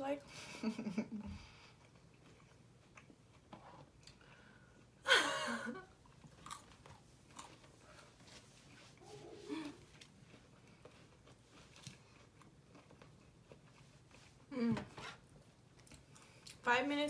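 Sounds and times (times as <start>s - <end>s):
person chewing food: 1.4s - 5.0s, 6.0s - 16.6s.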